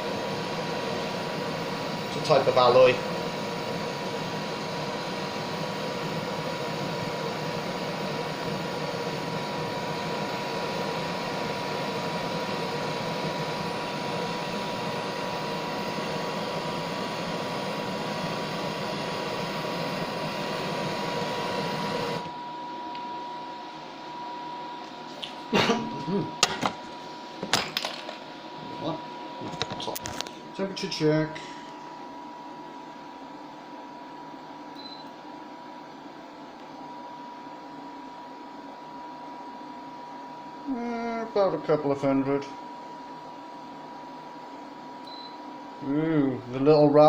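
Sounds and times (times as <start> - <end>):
heat source rushing noise: 0.0 - 47.0
steady hum: 0.0 - 47.0.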